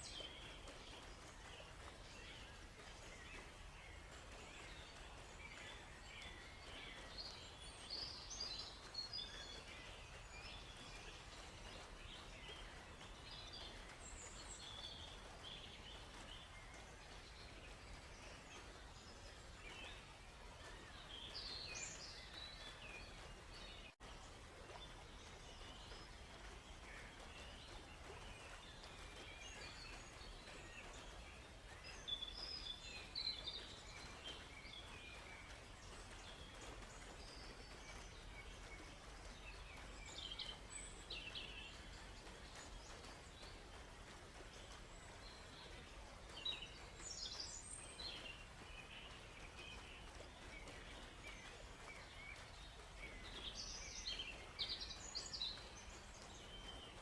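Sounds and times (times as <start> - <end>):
forest birds chirping: 0.0 - 57.0.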